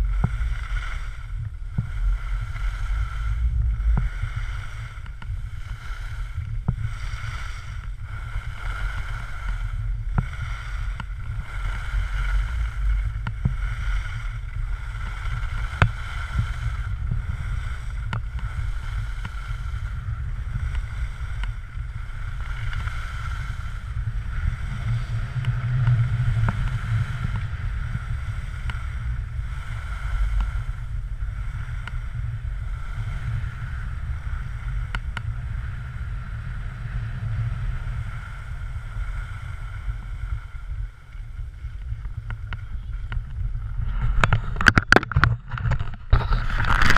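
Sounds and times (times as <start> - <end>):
skis sliding on snow: 0.0 - 44.6, 46.0 - 46.9
wind buffeting microphone: 0.0 - 46.9.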